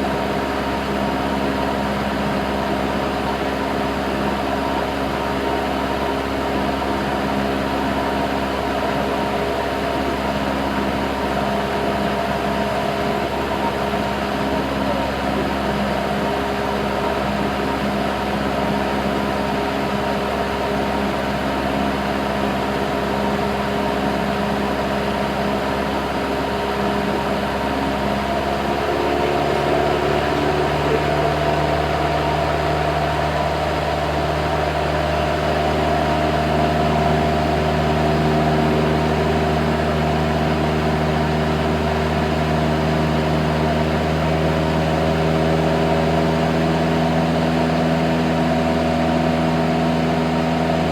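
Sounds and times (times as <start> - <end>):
propeller plane engine drone: 0.0 - 50.9.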